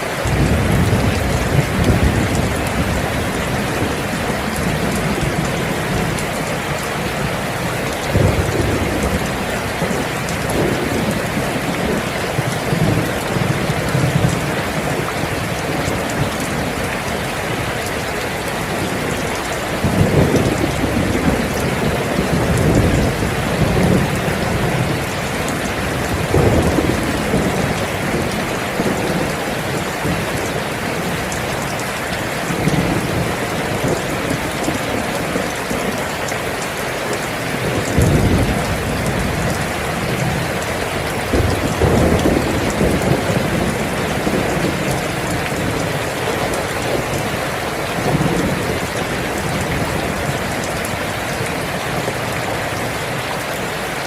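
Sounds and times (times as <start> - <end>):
steady rain: 0.0 - 54.0
thunder rumbling: 0.2 - 36.1, 37.1 - 52.8.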